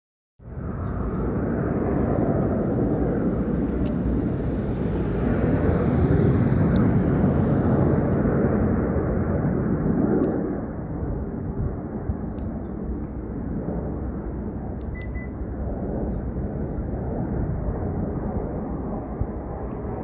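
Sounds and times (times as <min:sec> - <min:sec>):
distant engine rumble: 0:00.5 - 0:20.0.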